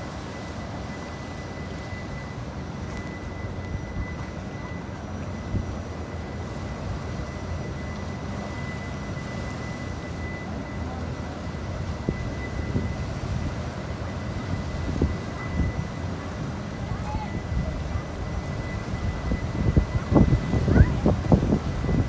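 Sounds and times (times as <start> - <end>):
ship engines rumbling: 0.0 - 22.0.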